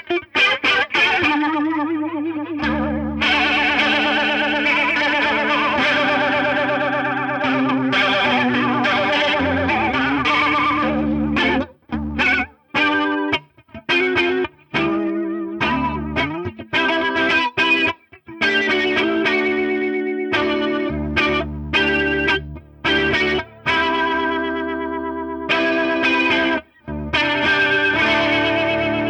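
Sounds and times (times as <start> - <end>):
distorted electric guitar with flanger: 0.0 - 29.0.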